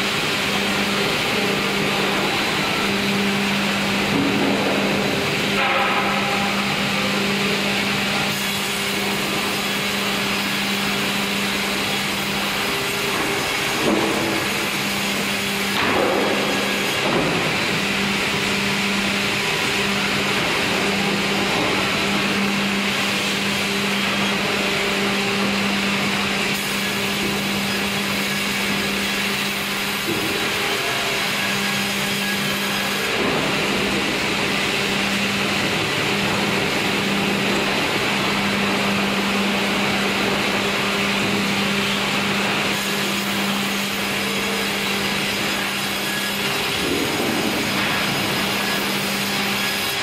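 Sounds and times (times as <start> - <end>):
sawmill machinery humming: 0.0 - 50.0.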